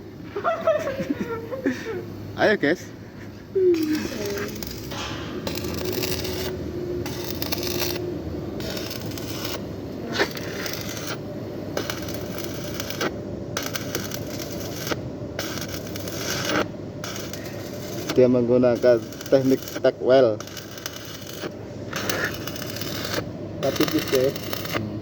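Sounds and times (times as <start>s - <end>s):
arc welding crackle: 2.4s - 25.0s.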